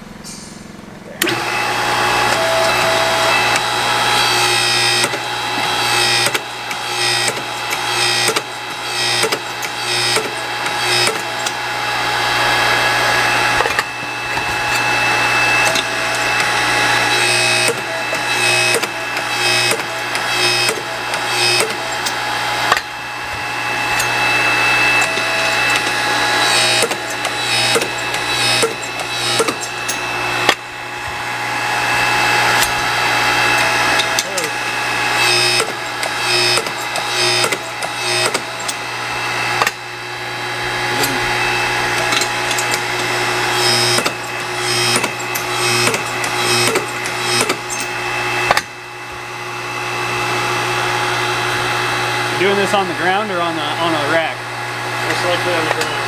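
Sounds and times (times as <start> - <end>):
metal pipe grinding: 0.4 - 48.8
electric grinder motor hum: 1.0 - 56.0.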